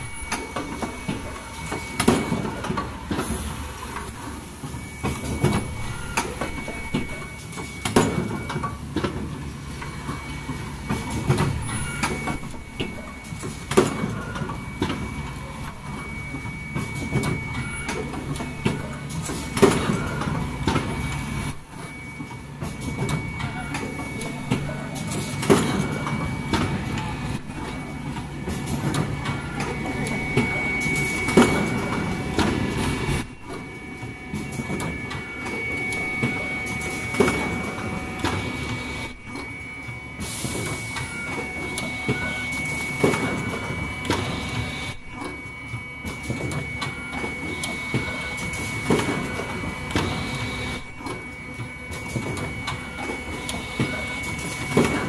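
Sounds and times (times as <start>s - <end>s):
loud machine stroke: 0.0s - 2.4s, 3.2s - 8.4s, 9.7s - 14.2s, 14.9s - 45.7s, 47.4s - 55.0s
high machine whine: 0.0s - 55.0s
pneumatic actuators: 0.0s - 55.0s
production line clattering: 0.0s - 55.0s.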